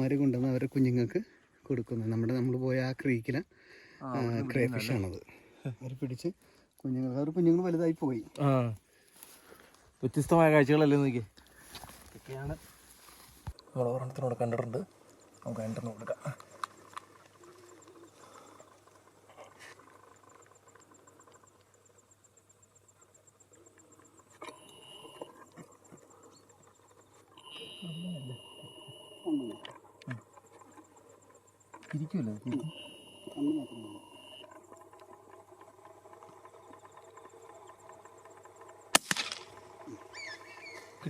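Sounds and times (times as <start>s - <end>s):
faint insect chirping: 0.0s - 41.0s.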